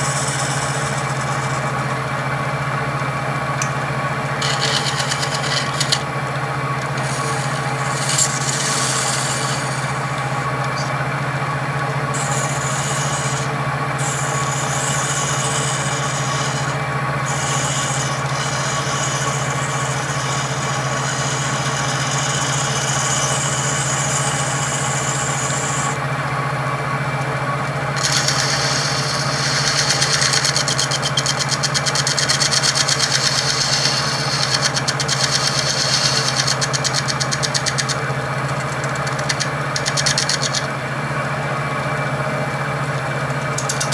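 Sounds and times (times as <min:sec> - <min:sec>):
tool scraping spinning pulley: 0:00.0 - 0:02.5, 0:03.4 - 0:26.0, 0:27.9 - 0:41.1, 0:42.7 - 0:43.9
lathe motor running: 0:00.0 - 0:43.9.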